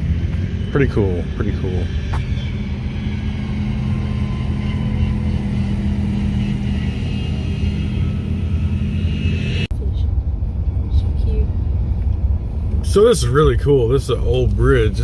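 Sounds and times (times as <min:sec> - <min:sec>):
constant low hum: 0:00.0 - 0:15.0
vehicle engine and road rumble: 0:00.0 - 0:15.0.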